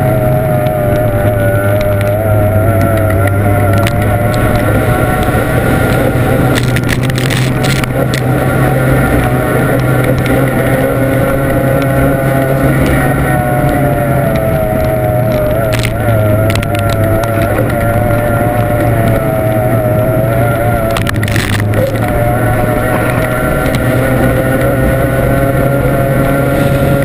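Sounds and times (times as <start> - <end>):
powerboat engine at high revs: 0.0 - 27.0
rush of wind and water: 0.0 - 27.0.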